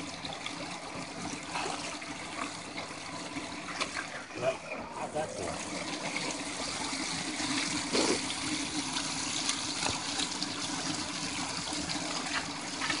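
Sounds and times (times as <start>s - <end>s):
water pouring through sluice: 0.0s - 13.0s.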